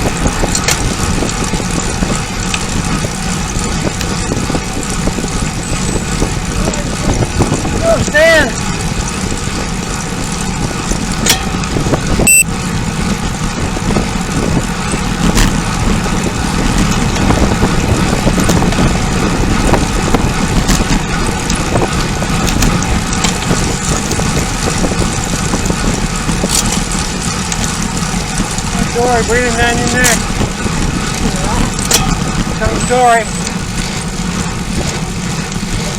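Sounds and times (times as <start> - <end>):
road noise: 0.0 - 35.9
wind rush: 0.0 - 35.9.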